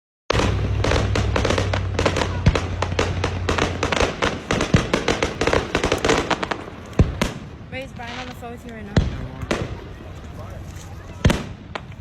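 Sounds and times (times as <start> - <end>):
firework bang: 0.3 - 10.0, 11.0 - 12.0
fireworks crackling and popping: 0.3 - 12.0.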